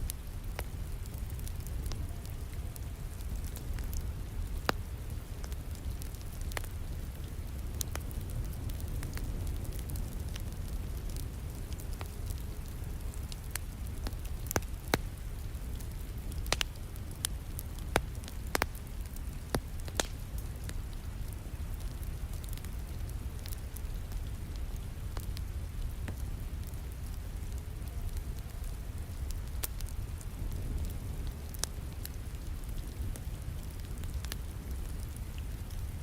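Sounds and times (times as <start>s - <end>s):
fire crackling in fireplace: 0.0s - 36.0s
rain falling: 0.1s - 36.0s.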